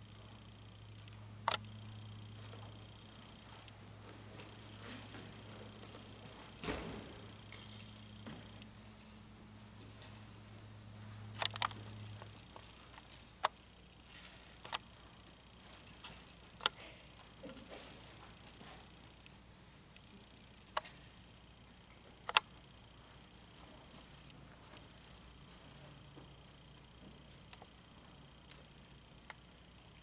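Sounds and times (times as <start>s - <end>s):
horse bit and bridle jingling: 4.3s - 21.4s, 22.6s - 29.9s.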